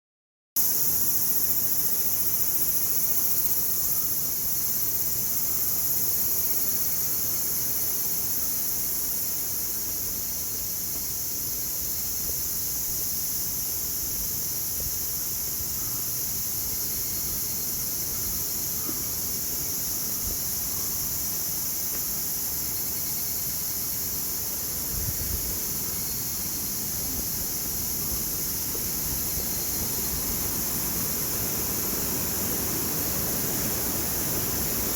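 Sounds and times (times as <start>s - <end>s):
high-pitched hiss: 0.6s - 34.9s.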